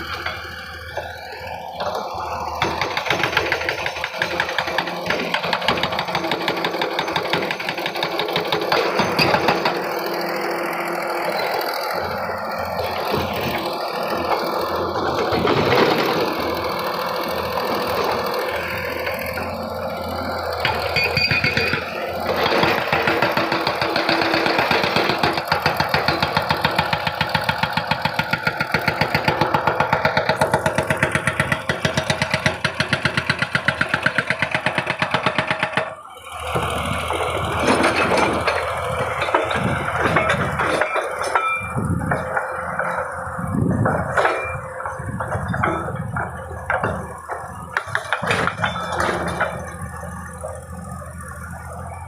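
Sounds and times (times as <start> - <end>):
excavator diesel engine: 0.0 - 52.0.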